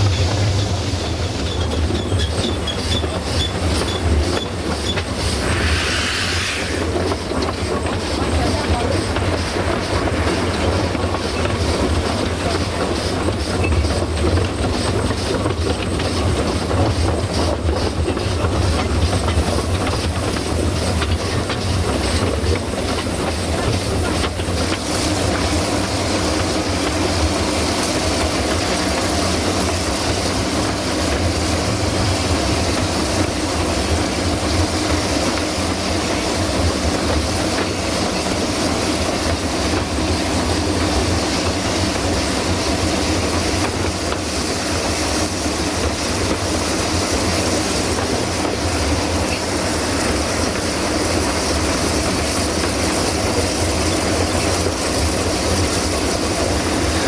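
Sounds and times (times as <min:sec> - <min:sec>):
rail-joint clickety-clack: 0:00.0 - 0:57.0
steam hiss: 0:00.0 - 0:57.0
train wheels rumbling on track: 0:00.0 - 0:57.0.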